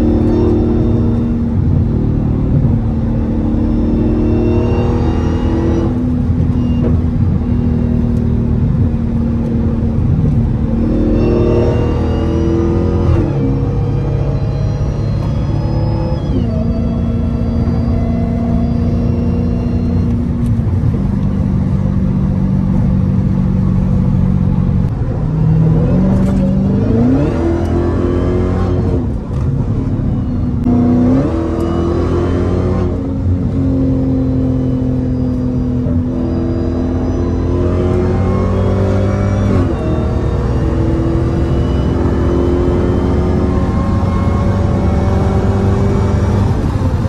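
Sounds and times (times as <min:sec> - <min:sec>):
car engine revving while driving: 0:00.0 - 0:47.0.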